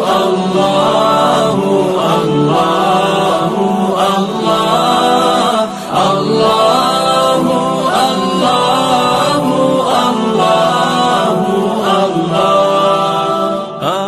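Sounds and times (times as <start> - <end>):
layered voices chanting: 0.0 - 14.0.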